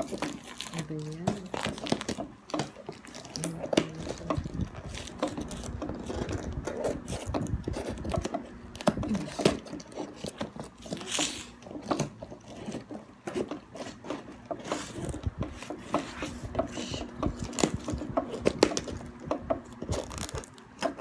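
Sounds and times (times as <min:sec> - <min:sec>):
parcel packaging clicks and scraping: 0:00.0 - 0:21.0.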